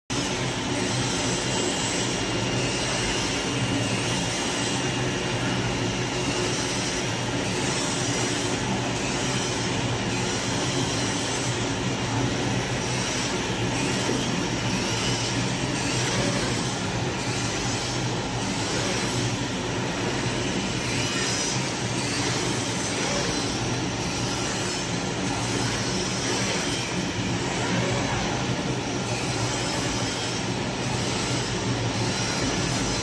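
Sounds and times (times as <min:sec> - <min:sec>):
cutting machine drone and hiss: 0:00.1 - 0:33.0.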